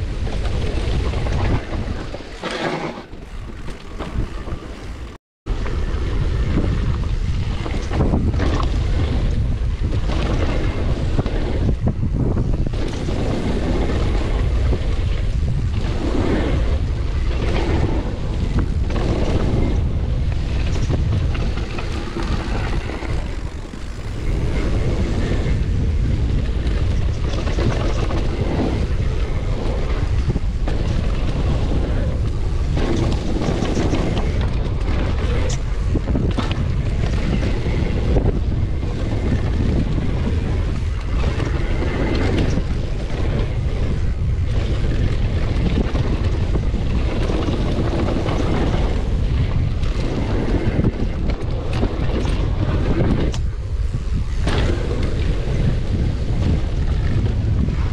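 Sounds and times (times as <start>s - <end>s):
bike knocks and rattles: 0.0s - 57.9s
bike tyres rumbling on dirt: 0.0s - 57.9s
wind buffeting microphone: 0.0s - 57.9s.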